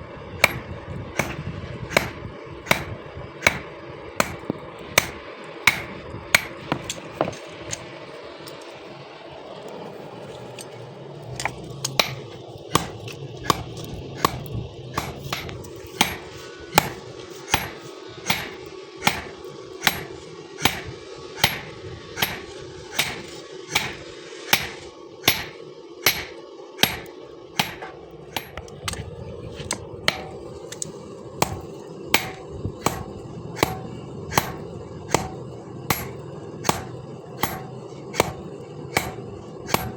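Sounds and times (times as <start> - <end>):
steady low hum: 0.0 - 39.9
hammer striking steel on anvil: 0.4 - 7.4, 11.4 - 29.0, 29.6 - 39.9.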